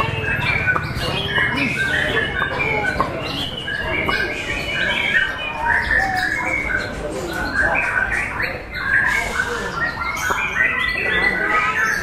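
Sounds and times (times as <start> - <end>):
songbirds whistling and chirping: 0.0 - 12.0.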